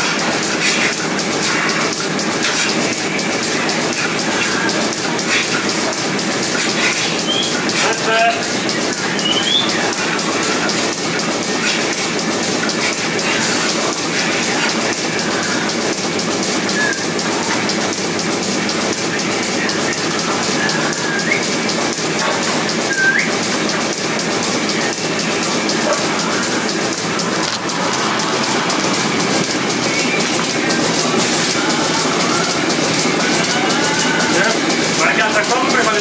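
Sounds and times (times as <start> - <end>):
milking machines hissing: 0.0 - 36.0.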